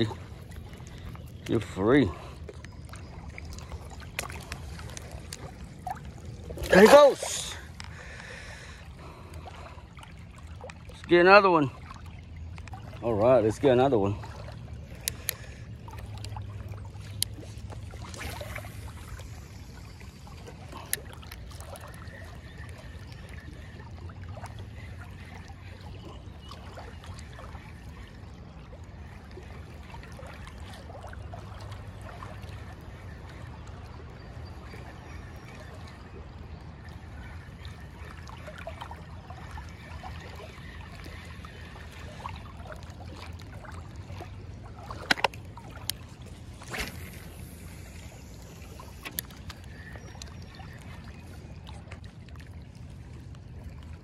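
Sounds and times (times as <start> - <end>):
water lapping against kayak hull: 0.0 - 54.0.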